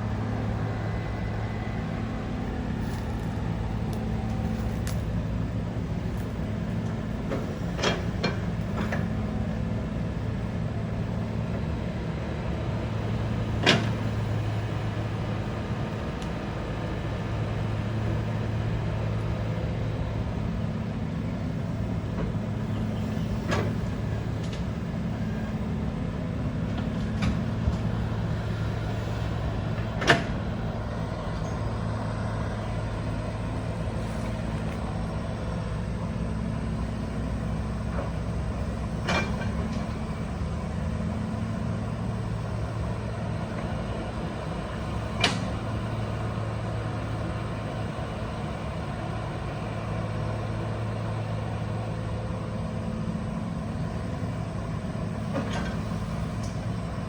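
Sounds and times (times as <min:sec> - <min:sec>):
heavy machine engine humming: 0:00.0 - 0:57.0.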